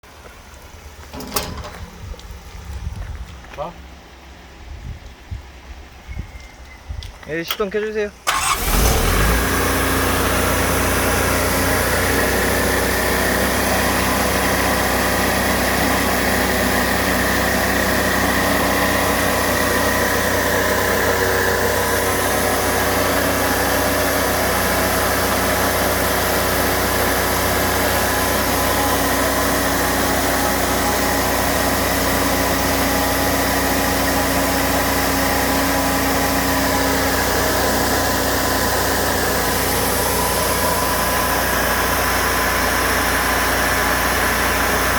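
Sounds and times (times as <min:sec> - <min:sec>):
diesel engine running: 0:00.1 - 0:04.7, 0:08.2 - 0:44.9.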